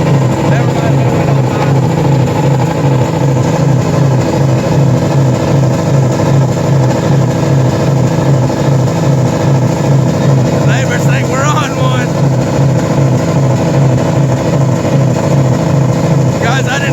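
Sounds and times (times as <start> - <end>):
car engines droning: 0.0 - 16.9.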